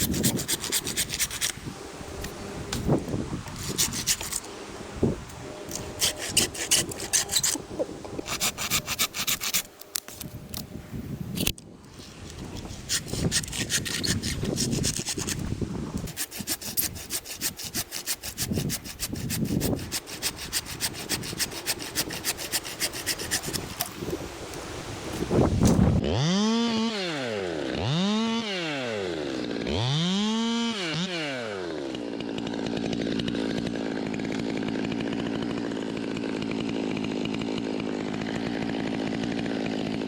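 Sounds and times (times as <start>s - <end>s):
hand saw cutting wood: 0.0s - 2.9s, 3.5s - 4.5s, 5.7s - 9.8s, 12.0s - 24.2s, 25.0s - 40.0s.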